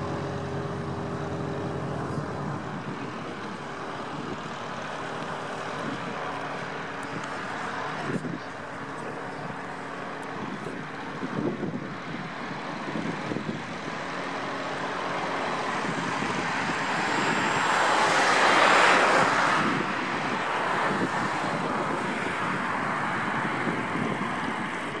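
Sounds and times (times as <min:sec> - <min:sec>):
light aircraft engine droning: 0:00.0 - 0:25.0.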